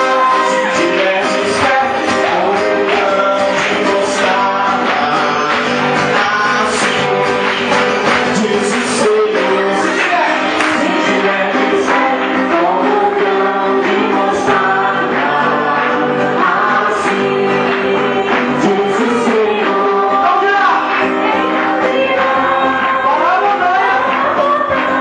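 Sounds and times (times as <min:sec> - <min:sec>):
man singing into a microphone: 0:00.0 - 0:25.0
strummed acoustic guitar: 0:00.0 - 0:25.0.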